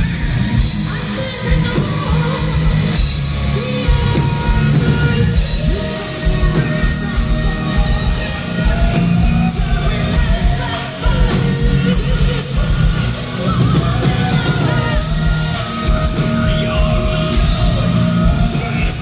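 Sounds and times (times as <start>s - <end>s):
drums: 0.0s - 19.0s
man singing: 0.0s - 19.0s
woman singing: 0.0s - 19.0s.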